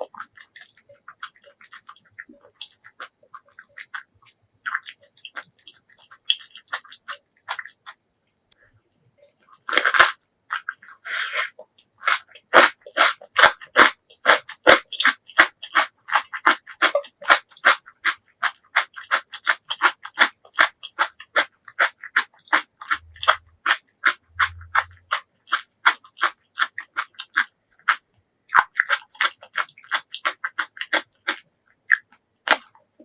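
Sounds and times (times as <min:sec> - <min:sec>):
crunchy food chewing: 0:00.0 - 0:08.0, 0:09.0 - 0:33.0.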